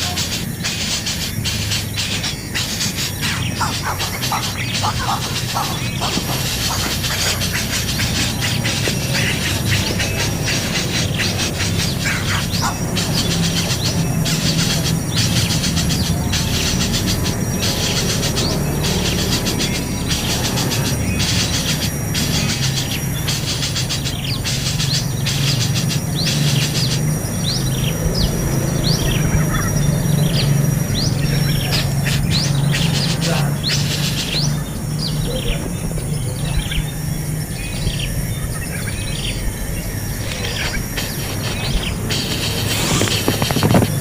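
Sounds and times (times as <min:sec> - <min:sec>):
baby birds chirping: 0:00.0 - 0:44.0.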